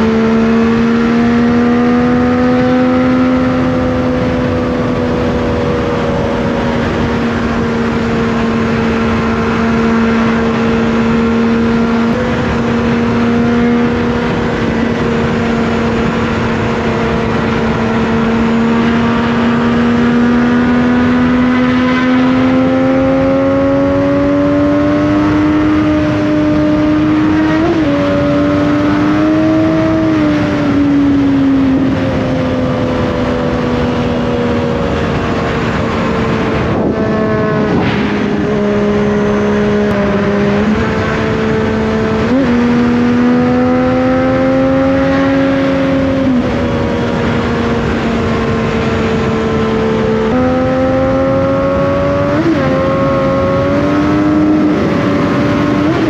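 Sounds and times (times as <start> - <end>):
motorcycle engine cruising: 0.0 - 56.0
steady rushing noise: 3.4 - 56.0.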